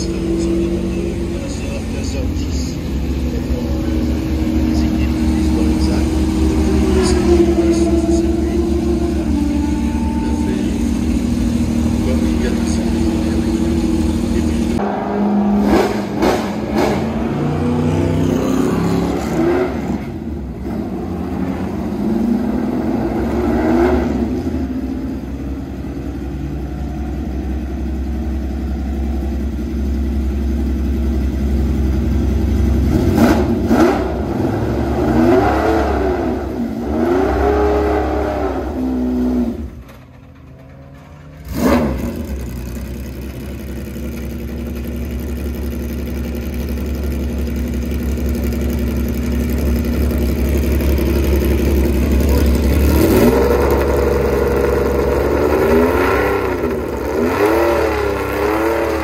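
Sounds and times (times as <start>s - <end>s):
racing engine revving: 0.0s - 25.8s, 32.1s - 40.0s, 41.0s - 59.0s.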